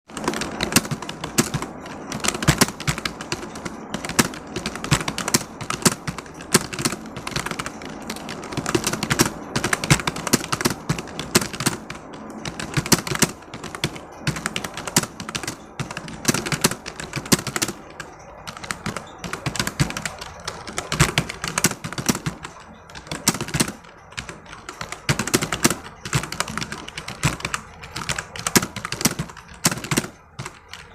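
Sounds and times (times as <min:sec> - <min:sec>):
fast typing on a keyboard: 0:00.1 - 0:30.9.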